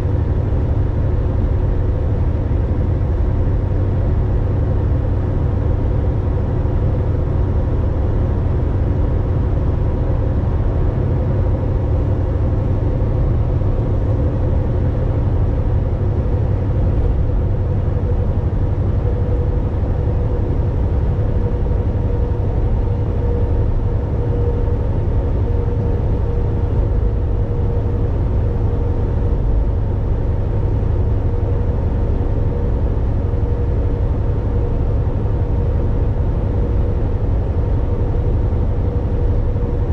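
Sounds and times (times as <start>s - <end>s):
diesel truck engine drone: 0.0s - 39.9s
faint steady whine: 0.0s - 39.9s
road noise: 0.0s - 39.9s.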